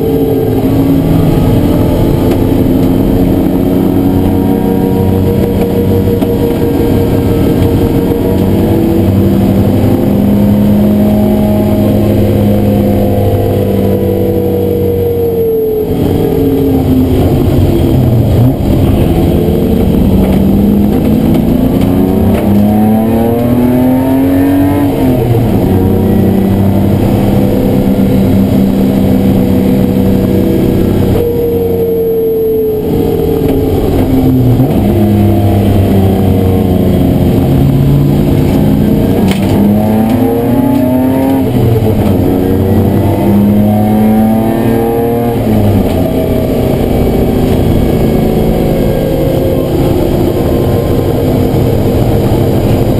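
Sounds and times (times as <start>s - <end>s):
race car engine from inside: 0.0s - 52.9s.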